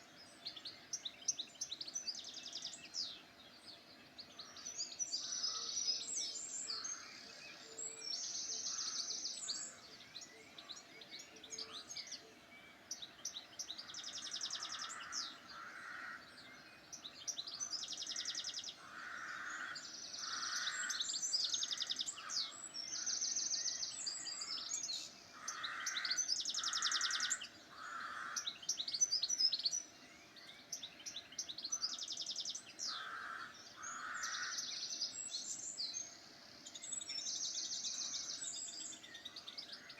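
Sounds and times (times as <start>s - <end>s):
birds singing trilled phrases: 0.0s - 39.9s.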